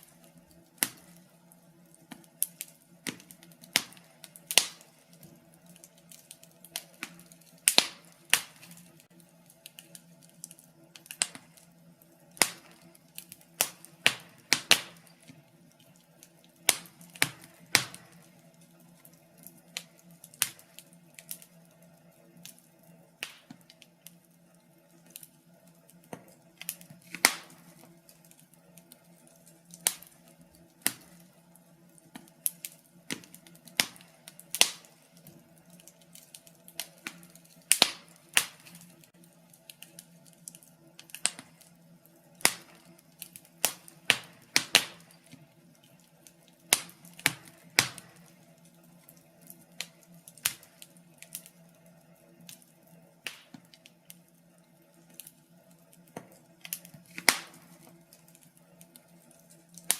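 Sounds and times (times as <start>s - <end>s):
faint steady hum: 0.0s - 59.9s
wood fire crackling and popping: 0.0s - 59.9s.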